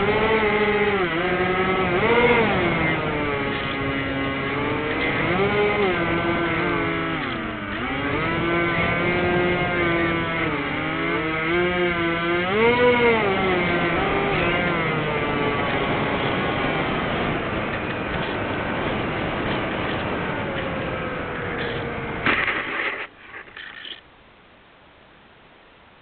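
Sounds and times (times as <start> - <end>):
electric motors and propellers whining: 0.0 - 24.0.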